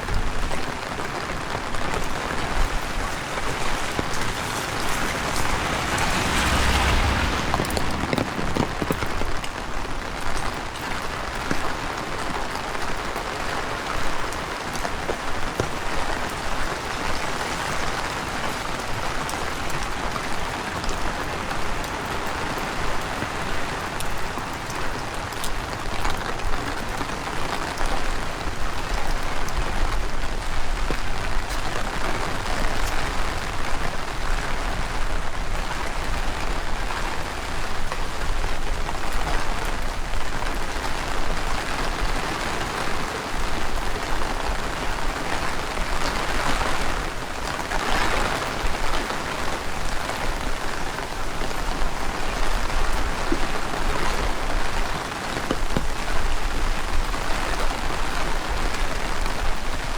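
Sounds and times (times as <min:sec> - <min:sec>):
heavy rain pattering: 0:00.0 - 0:59.9
wind rumble on microphone: 0:00.0 - 0:59.9.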